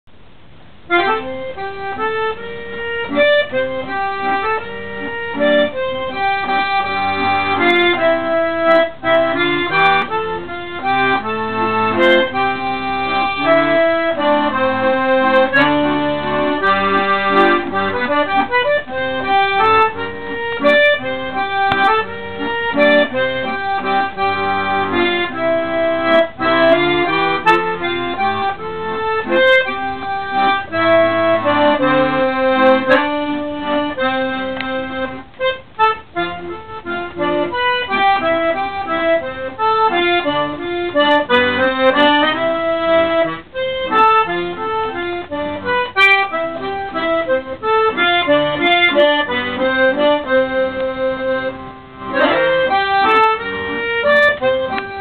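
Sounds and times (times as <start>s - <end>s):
accordion playing a waltz: 0.8s - 55.0s.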